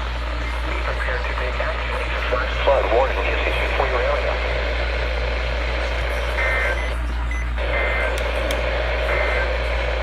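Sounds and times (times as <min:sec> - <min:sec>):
receiver hum and static: 0:00.0 - 0:10.0.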